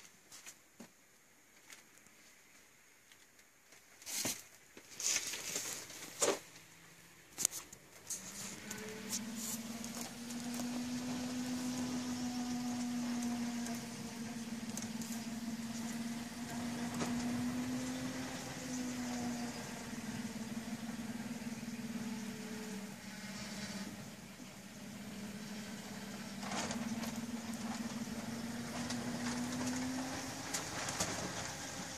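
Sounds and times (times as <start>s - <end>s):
electrical hum: 5.6s - 31.9s.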